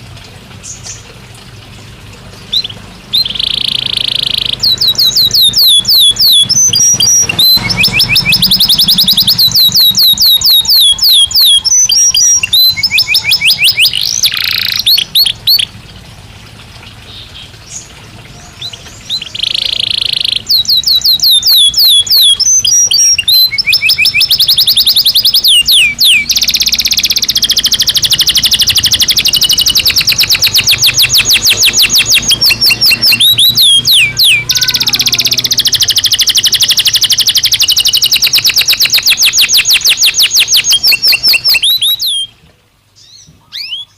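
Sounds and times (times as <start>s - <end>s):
canary singing: 1.8s - 16.0s, 17.0s - 42.4s, 43.0s - 43.9s.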